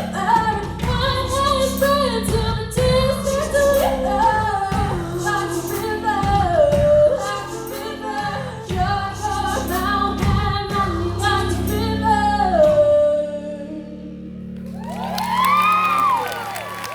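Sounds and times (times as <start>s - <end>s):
woman singing: 0.0s - 14.3s.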